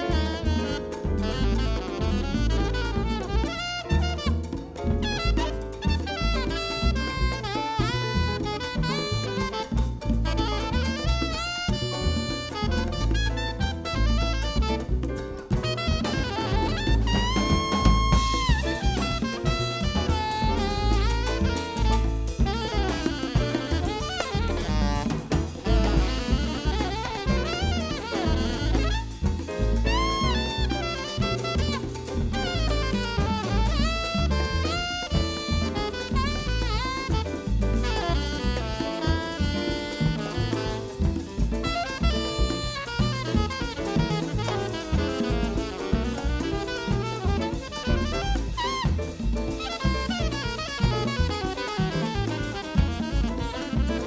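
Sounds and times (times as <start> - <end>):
deep bass line: 0.0 - 54.0
drum kit: 0.0 - 54.0
saxophone melody: 0.0 - 54.0.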